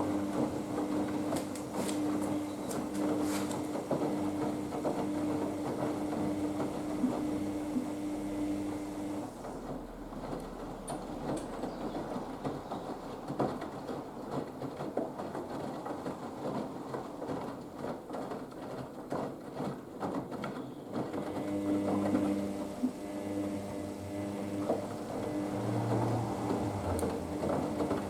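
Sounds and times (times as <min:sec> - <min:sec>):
laundry and water sloshing in drum: 0:00.0 - 0:28.0
washing machine motor hum: 0:00.0 - 0:28.0.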